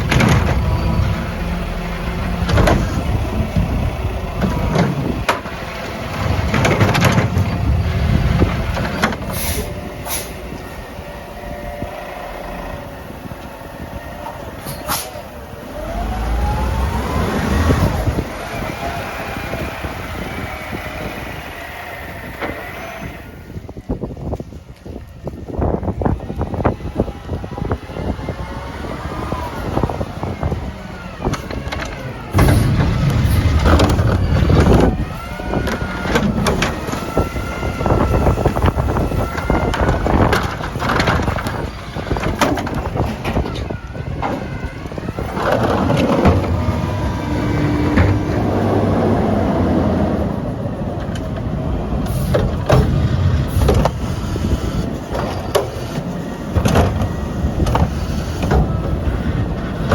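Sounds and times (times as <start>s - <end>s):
diesel engine revving: 0.0s - 24.4s, 25.2s - 59.9s
hydraulic whine: 0.0s - 59.9s.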